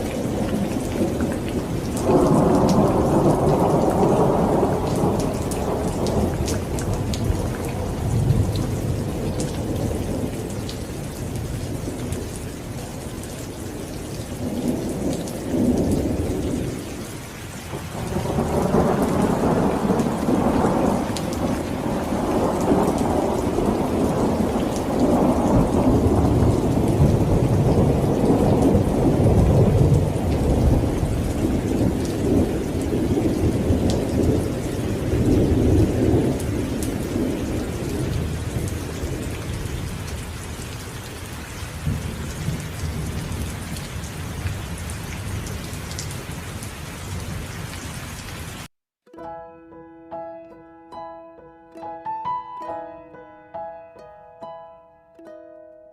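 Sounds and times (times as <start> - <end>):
heavy rain pouring: 0.0 - 48.7.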